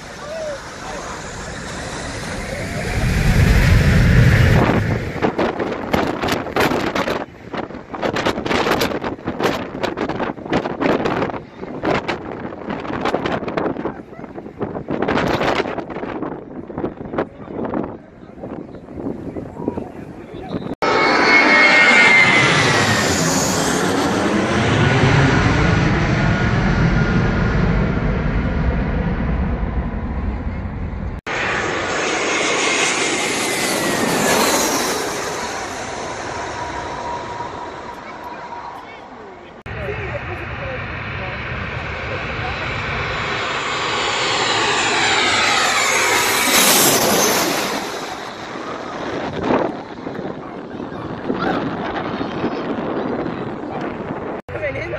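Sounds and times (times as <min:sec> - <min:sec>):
jet engines passing overhead: 0:00.0 - 0:54.9.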